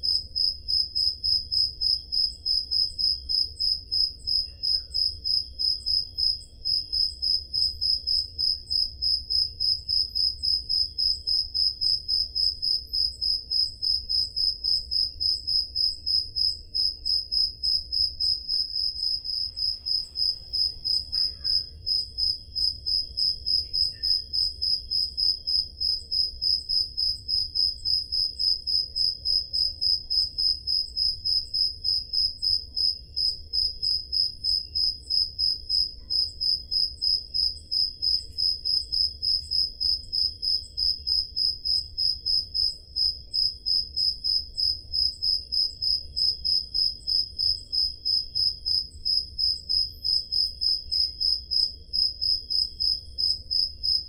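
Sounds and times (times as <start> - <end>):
faint crickets chirping: 0.0 - 54.0
loud regular cricket chirp: 0.0 - 54.0.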